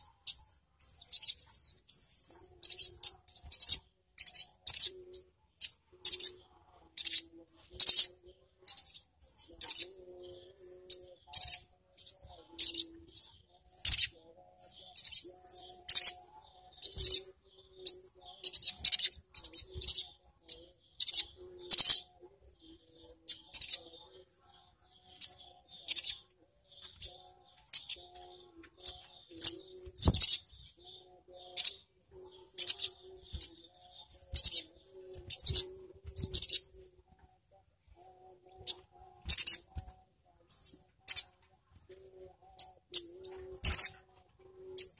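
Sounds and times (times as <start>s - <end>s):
sunbird chirping: 0.0s - 44.9s.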